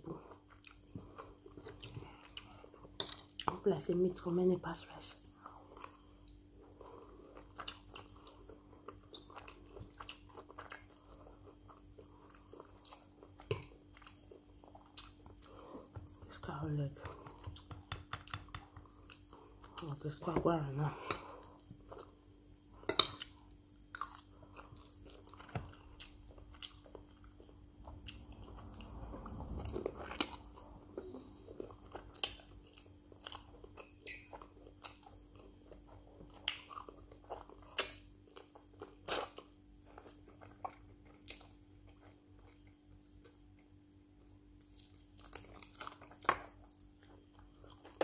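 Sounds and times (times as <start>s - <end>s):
person chewing food: 0.0s - 3.6s, 5.2s - 48.0s.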